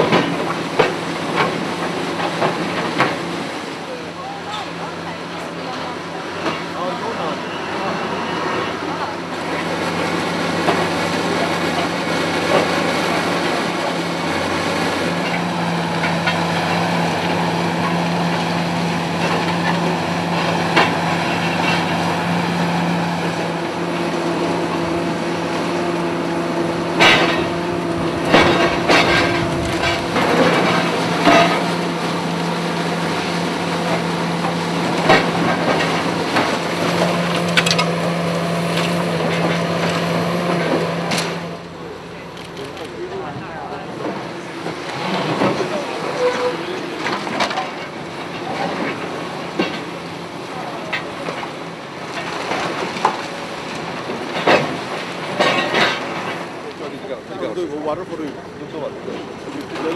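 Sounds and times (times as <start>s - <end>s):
diesel engine running: 8.8s - 59.9s.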